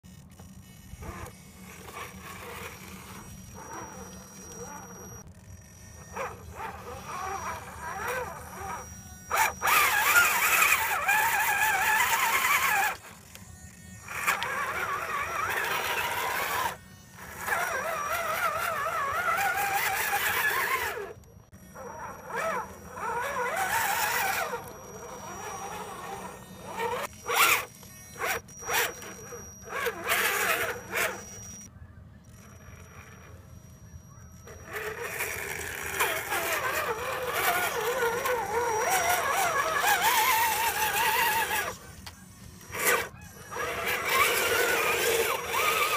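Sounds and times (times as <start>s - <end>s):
toy truck churning through mud: 0.1s - 5.2s, 5.9s - 31.5s, 34.4s - 45.9s
electric motor whining: 0.1s - 45.9s.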